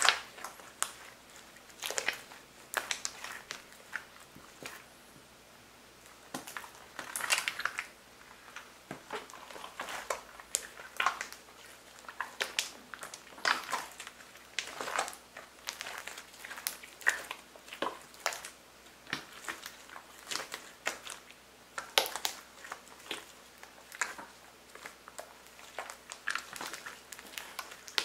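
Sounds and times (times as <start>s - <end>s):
slime squishing by hand: 0.0s - 5.0s, 5.9s - 28.0s.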